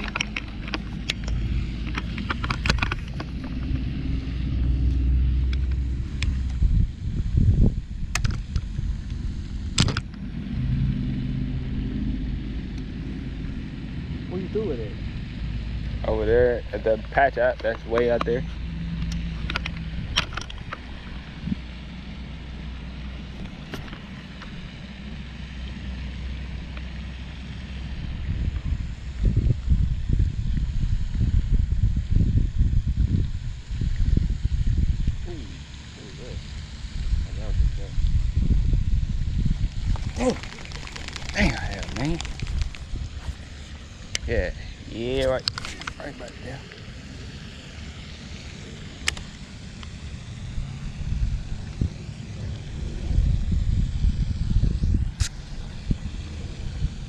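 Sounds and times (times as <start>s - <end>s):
wind rumbling on microphone: 0.0s - 25.2s, 27.6s - 47.4s, 48.4s - 57.0s.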